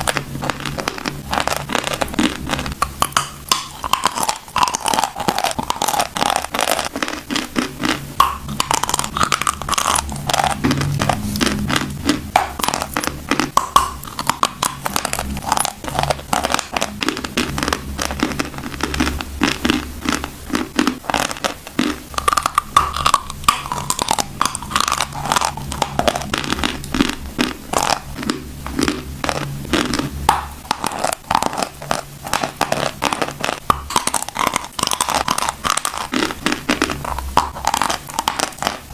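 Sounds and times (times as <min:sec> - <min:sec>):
chewing and crunching chalk: 0:00.0 - 0:38.9.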